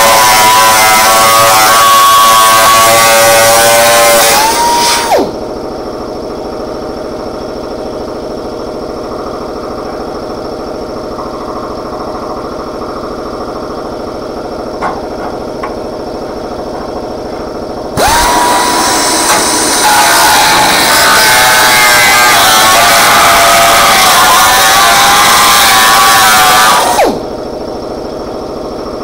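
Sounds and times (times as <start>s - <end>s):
grinder whining down: 0.0s - 7.8s, 8.6s - 29.0s
steady motor hum: 0.0s - 29.0s.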